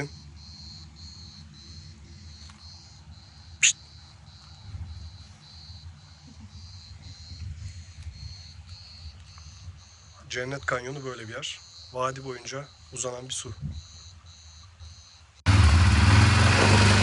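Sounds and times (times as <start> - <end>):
insects chirping: 0.0 - 15.4.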